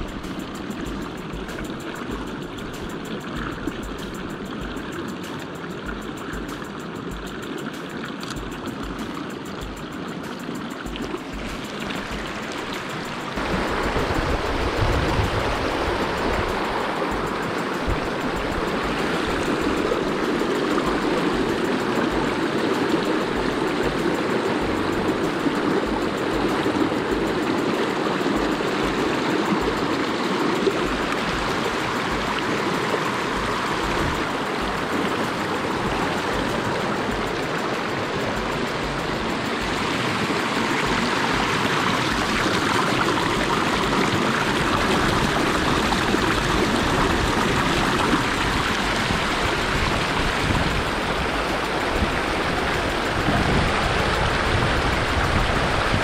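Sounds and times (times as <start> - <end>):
river water babbling: 0.0 - 56.0.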